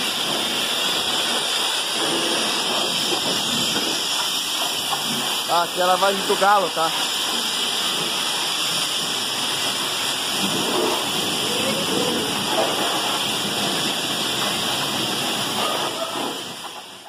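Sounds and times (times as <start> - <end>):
water jet spraying on metal: 0.0 - 17.0.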